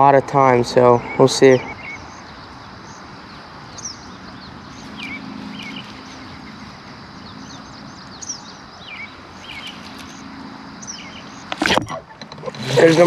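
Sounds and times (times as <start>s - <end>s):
birds chirping: 0.0s - 13.0s
steady outdoor hiss: 0.0s - 13.0s.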